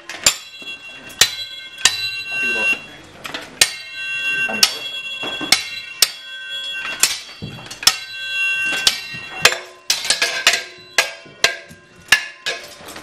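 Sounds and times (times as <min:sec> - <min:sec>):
metal swords clashing: 0:00.0 - 0:02.3, 0:03.6 - 0:04.0, 0:04.6 - 0:06.3, 0:06.9 - 0:13.0.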